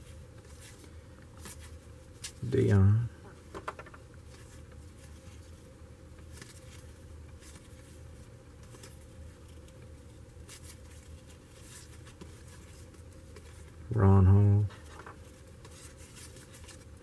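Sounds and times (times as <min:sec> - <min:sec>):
trading cards rustling: 0:00.0 - 0:13.8, 0:14.7 - 0:17.0
low steady hum: 0:00.0 - 0:17.0.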